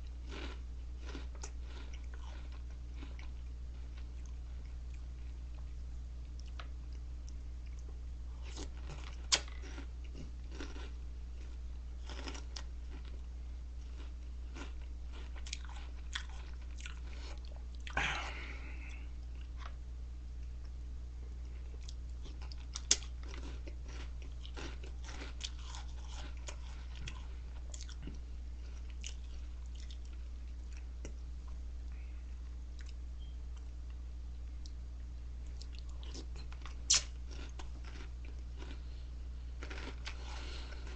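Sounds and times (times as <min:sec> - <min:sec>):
chewing crunchy cereal: 0:00.0 - 0:19.8, 0:21.4 - 0:31.2, 0:35.4 - 0:39.0, 0:39.6 - 0:40.9
steady low hum: 0:00.0 - 0:40.9.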